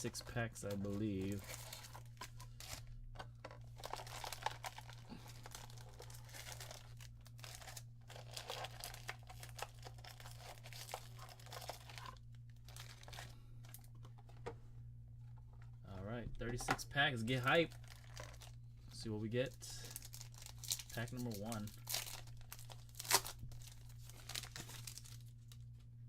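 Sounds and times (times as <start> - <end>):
foil packs crinkling: 0.0 - 2.9, 3.5 - 14.4, 17.2 - 18.6, 19.4 - 25.8.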